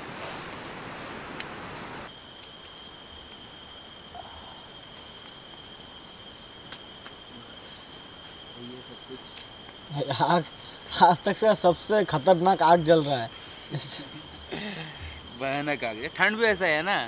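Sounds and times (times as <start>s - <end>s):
background hiss: 0.0s - 17.0s
crickets trilling: 0.0s - 17.0s
lower steady insect tone: 0.0s - 17.0s.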